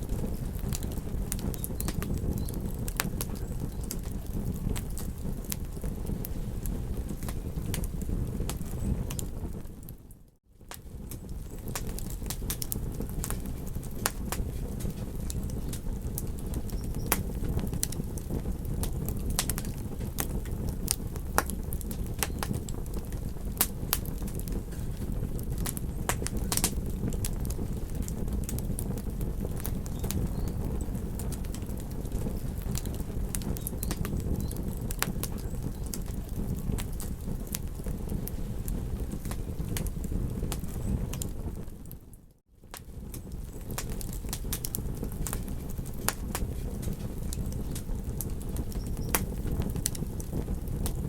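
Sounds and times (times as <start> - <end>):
campfire crackling and popping: 0.0 - 51.0.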